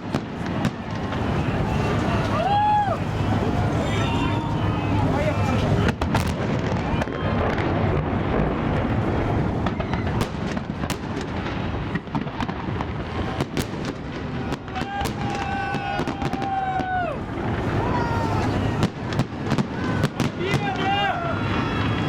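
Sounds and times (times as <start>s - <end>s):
background rumble: 0.0s - 20.0s
fireworks bangs and cracks: 0.0s - 22.0s.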